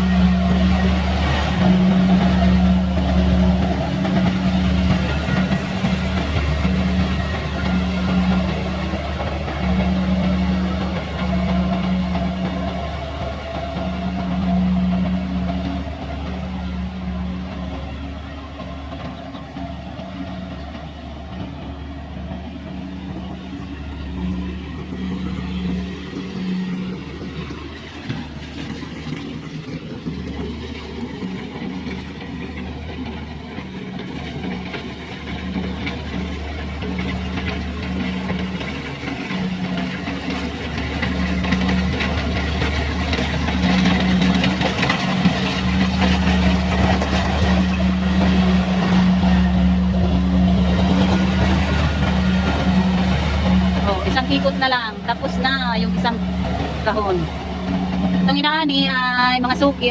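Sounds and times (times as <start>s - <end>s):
busy rattling noise: 0.0s - 59.9s
combine harvester engine hum: 0.0s - 59.9s.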